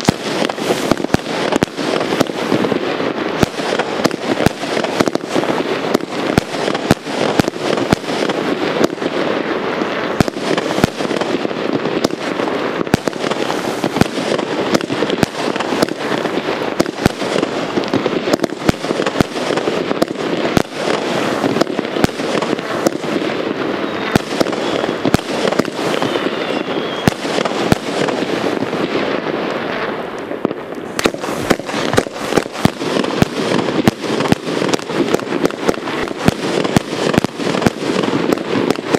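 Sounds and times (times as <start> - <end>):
fireworks cake firing shots: 0.0 - 38.9
fireworks hiss and crackle: 0.0 - 38.9.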